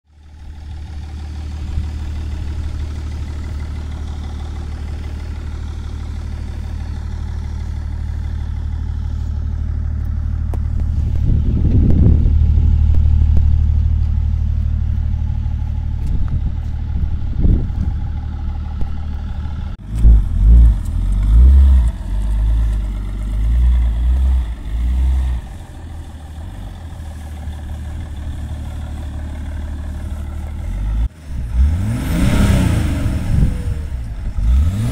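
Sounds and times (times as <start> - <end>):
diesel engine idling and revving: 0.1 - 34.9.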